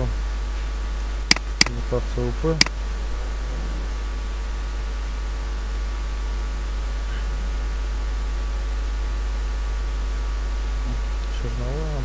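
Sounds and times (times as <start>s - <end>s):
electrical hum: 0.0s - 12.0s
steady hiss: 0.0s - 12.0s.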